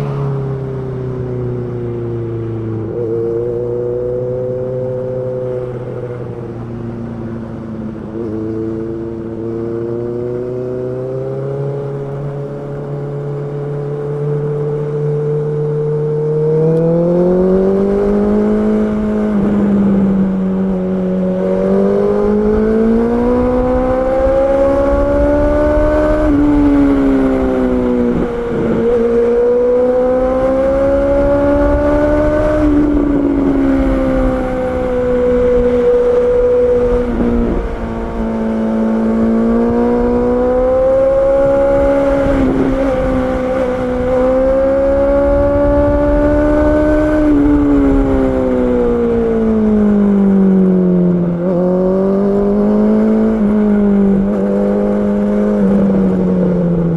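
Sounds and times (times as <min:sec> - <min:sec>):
motorcycle engine accelerating: 0:00.0 - 0:56.9
wind rumble on microphone: 0:00.0 - 0:56.9.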